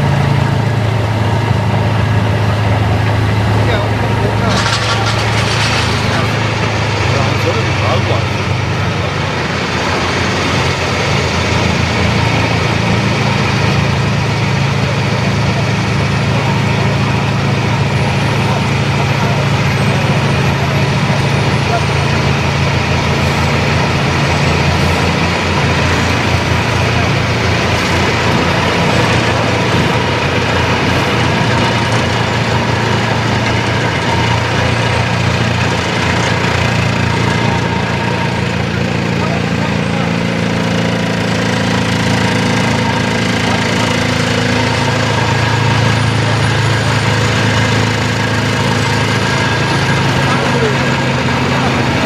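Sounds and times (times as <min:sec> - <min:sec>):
excavator vibro hammer running: 0:00.0 - 0:52.0.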